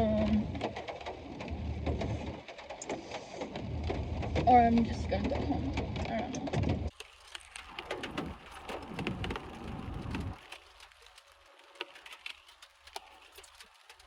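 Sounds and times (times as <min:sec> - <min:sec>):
rain on a car roof: 0:00.0 - 0:14.0.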